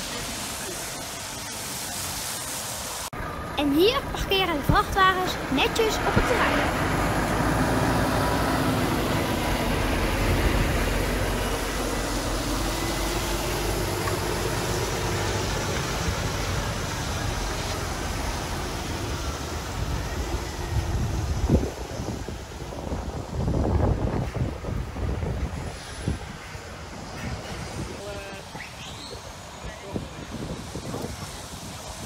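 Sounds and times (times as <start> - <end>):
trucks driving slowly past: 0.0 - 32.0
tyre noise on wet road: 0.0 - 32.0.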